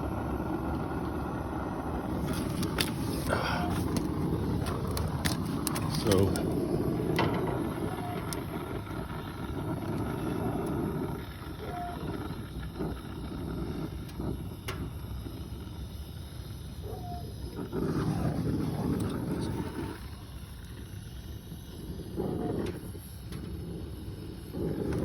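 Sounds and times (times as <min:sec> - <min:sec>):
torch flame rushing: 0:00.0 - 0:25.0.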